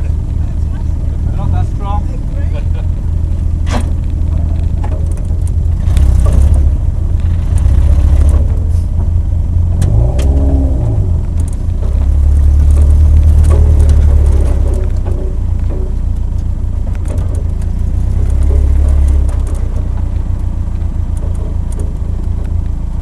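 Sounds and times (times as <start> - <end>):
sports car engine droning: 0.0 - 23.0.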